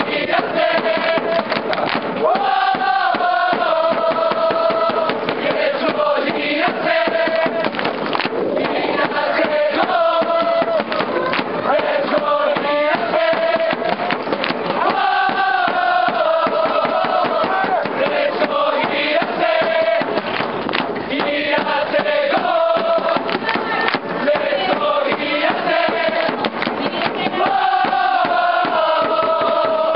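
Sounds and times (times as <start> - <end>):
football crowd chanting: 0.0 - 29.9.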